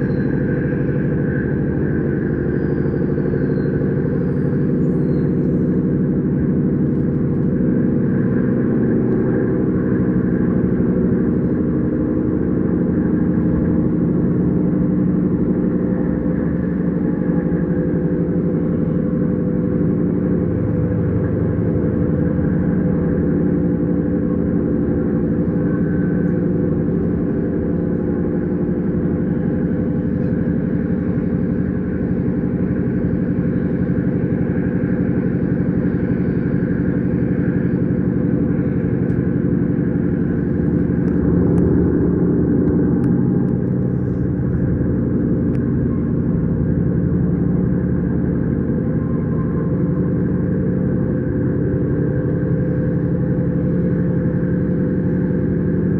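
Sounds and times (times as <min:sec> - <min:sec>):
electric train rumbling: 0:00.0 - 0:55.9.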